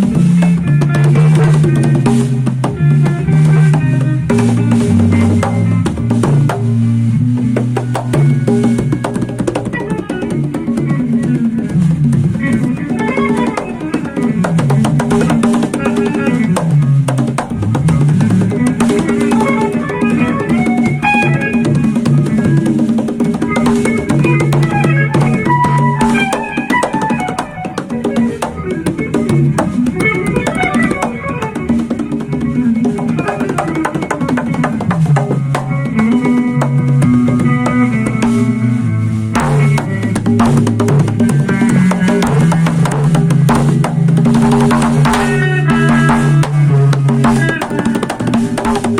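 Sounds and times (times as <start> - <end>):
bass guitar: 0.0 - 48.9
busy drum kit: 0.0 - 48.9
electric guitar melodic lines: 0.0 - 48.9.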